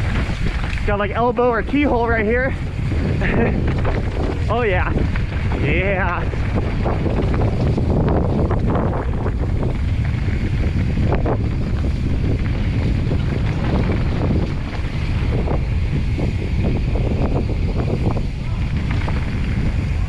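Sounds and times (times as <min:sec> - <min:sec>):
bike clattering over trail: 0:00.0 - 0:20.0
wind buffeting microphone: 0:00.0 - 0:20.0.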